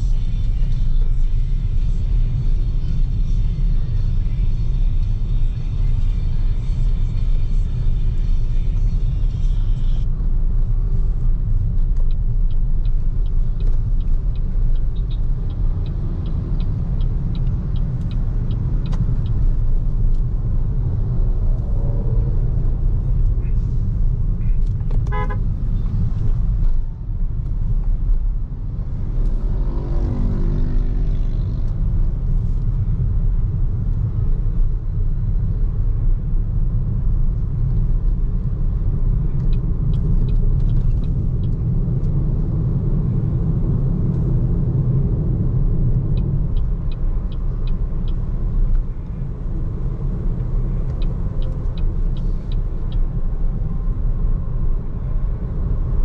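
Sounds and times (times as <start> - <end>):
car tyre and wind noise: 10.0 - 56.0.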